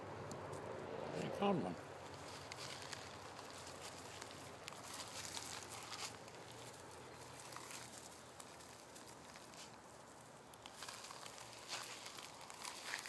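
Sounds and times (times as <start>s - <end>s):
light crackles: 1.8s - 13.0s
footsteps through dry grass: 1.9s - 13.0s.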